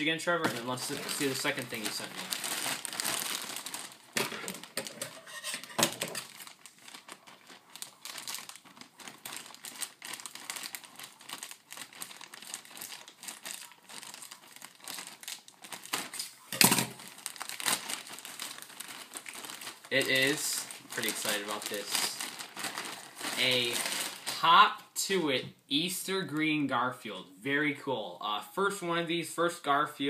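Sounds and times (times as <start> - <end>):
plastic bag crinkling: 0.0 - 24.9.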